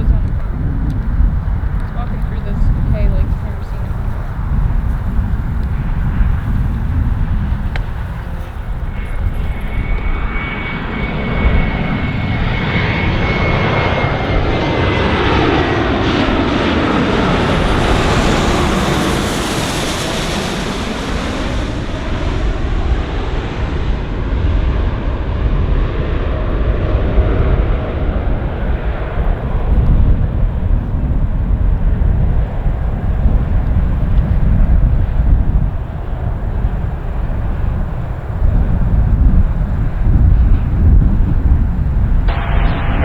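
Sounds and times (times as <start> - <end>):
high turbine whine: 0.0 - 43.0
jet passing by: 0.0 - 43.0.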